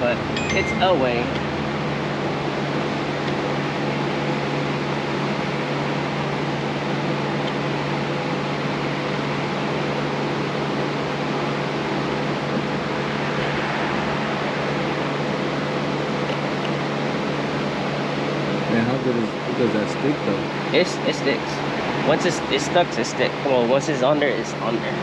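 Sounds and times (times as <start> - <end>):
machine hum with rushing air: 0.0 - 25.0.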